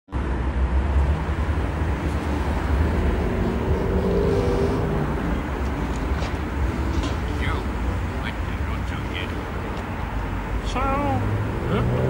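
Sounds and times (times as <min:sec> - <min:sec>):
traffic rumble: 0:00.1 - 0:12.0
faint engine hum: 0:00.2 - 0:12.0.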